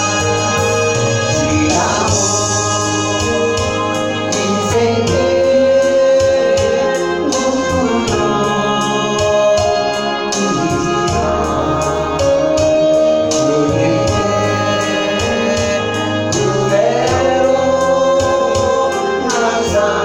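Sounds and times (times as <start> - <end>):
organ-toned keyboard chords: 0.0 - 20.0.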